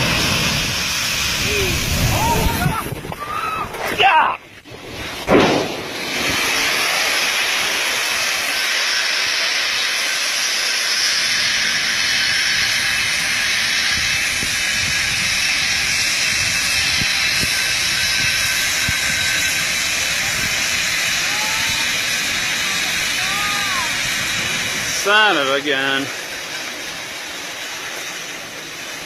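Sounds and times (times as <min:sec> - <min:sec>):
grain pouring with rushing hiss: 0:00.0 - 0:29.0.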